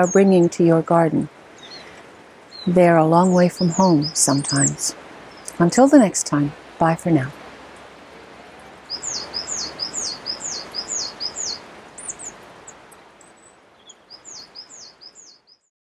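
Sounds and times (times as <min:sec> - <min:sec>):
faint outdoor hiss: 0:00.0 - 0:15.6.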